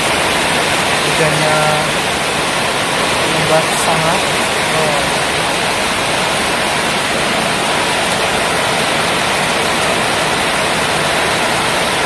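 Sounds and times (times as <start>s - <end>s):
heavy rain on roofs and street: 0.0s - 12.0s.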